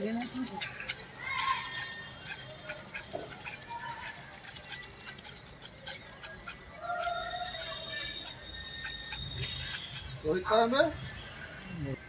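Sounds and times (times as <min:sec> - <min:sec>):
kite reel spool clicking: 0:00.0 - 0:12.0.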